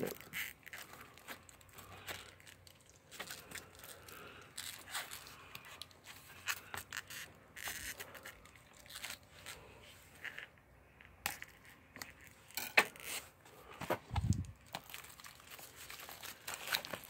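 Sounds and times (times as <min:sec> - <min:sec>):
plastic film crinkling: 0:00.0 - 0:10.6, 0:11.3 - 0:17.0.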